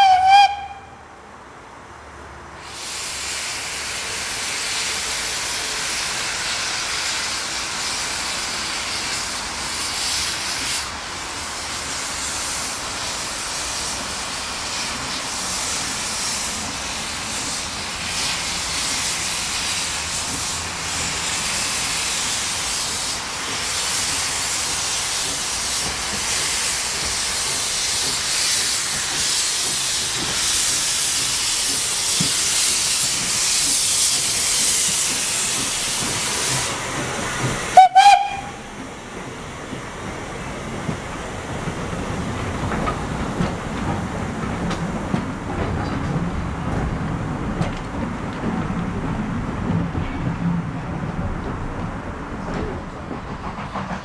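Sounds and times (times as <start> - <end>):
steam locomotive hissing: 0.0 - 0.8, 2.5 - 49.4, 52.3 - 54.0.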